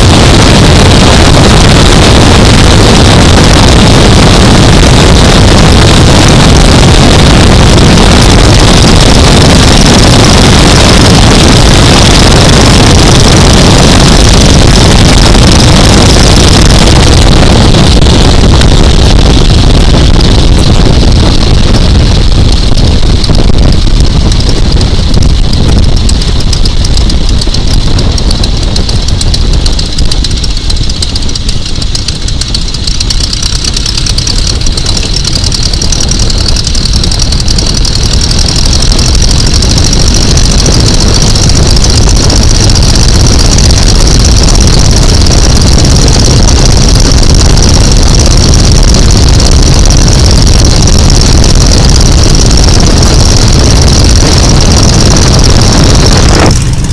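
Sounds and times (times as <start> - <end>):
radial aircraft engine running: 0.0 - 56.9.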